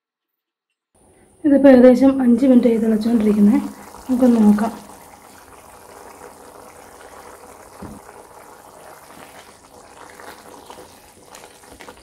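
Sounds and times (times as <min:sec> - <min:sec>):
gravy bubbling in a pan: 0:02.0 - 0:12.0.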